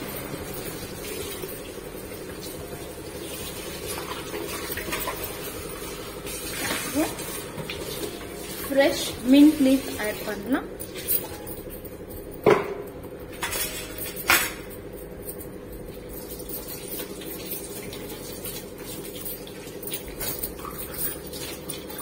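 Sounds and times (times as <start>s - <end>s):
steady low hum: 0.0s - 21.5s.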